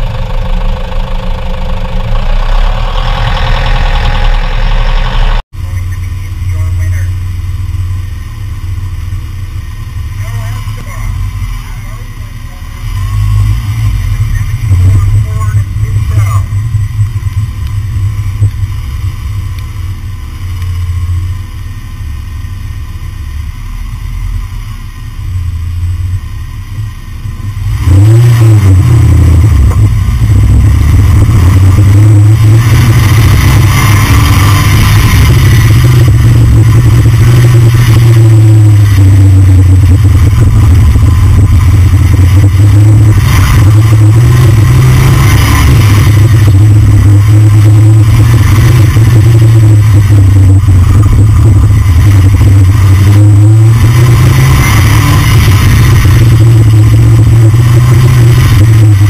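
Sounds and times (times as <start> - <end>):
car road noise: 0.0 - 59.0
loud steady low drone: 0.0 - 59.0.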